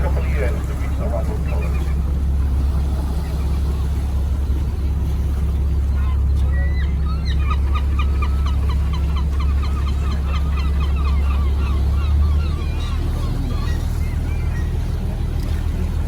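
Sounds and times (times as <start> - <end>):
boat engine hum: 0.0 - 16.0
seabirds calling: 0.0 - 16.0.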